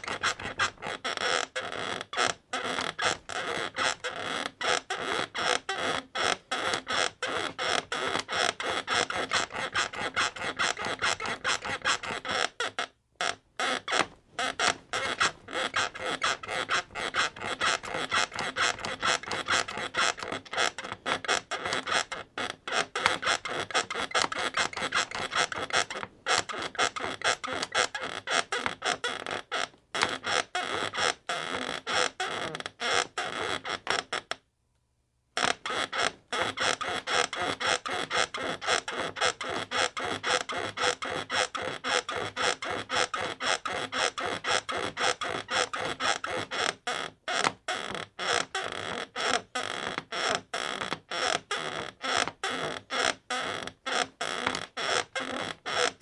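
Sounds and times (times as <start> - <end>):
bed creaking rhythmically: 0.0 - 34.1, 35.4 - 56.0.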